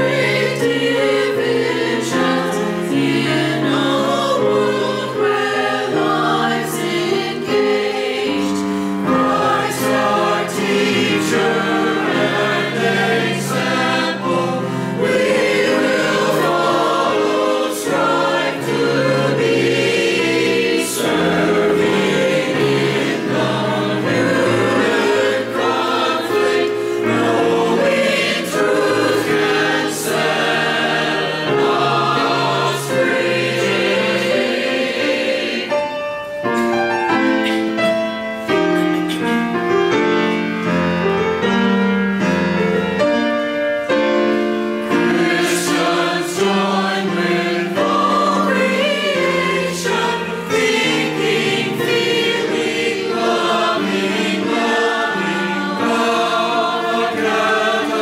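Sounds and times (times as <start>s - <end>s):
choir singing: 0.0s - 39.7s, 42.2s - 58.0s.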